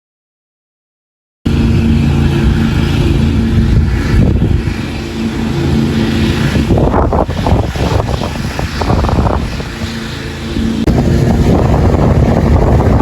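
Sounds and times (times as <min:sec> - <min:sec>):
lawn mower engine running: 0:01.5 - 0:13.0.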